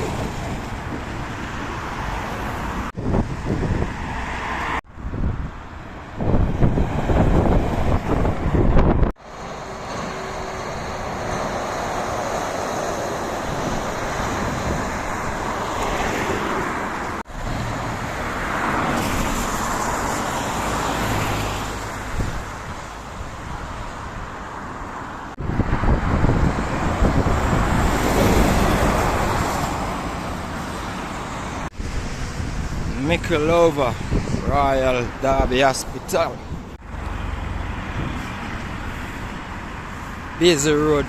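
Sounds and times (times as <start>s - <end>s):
wind rumbling on microphone: 0.0s - 9.2s, 10.8s - 40.4s
cars passing on wet road: 0.0s - 41.0s.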